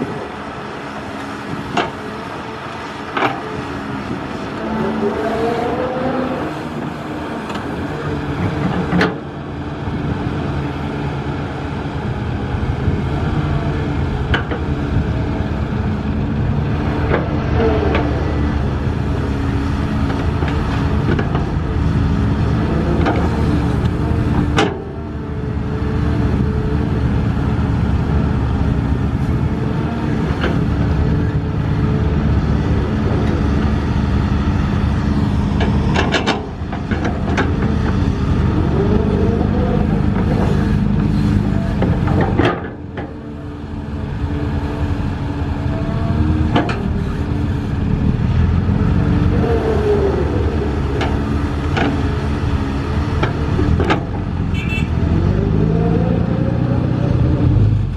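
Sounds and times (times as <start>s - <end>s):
heavy diesel machinery engines: 0.0s - 57.9s.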